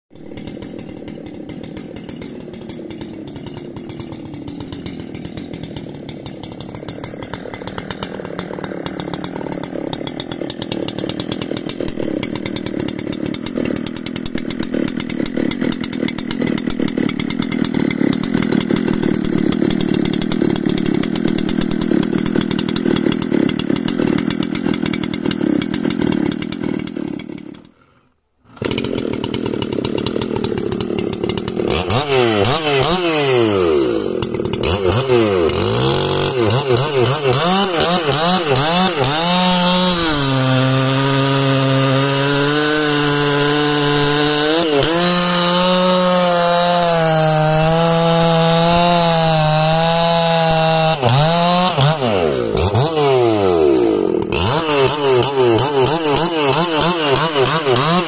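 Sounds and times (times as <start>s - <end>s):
chainsaw cutting a log: 0.1s - 58.0s.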